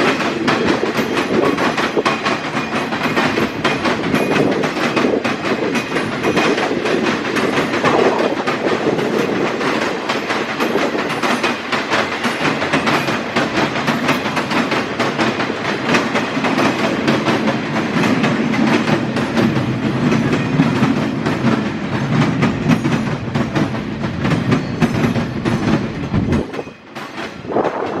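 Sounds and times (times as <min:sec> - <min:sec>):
train wheels clattering over rails: 0:00.0 - 0:28.0.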